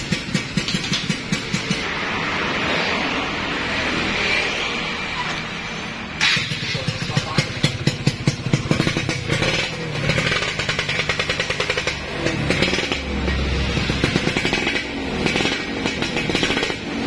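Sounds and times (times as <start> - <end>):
two-stroke engine revving: 0.0 - 4.6, 6.2 - 17.0.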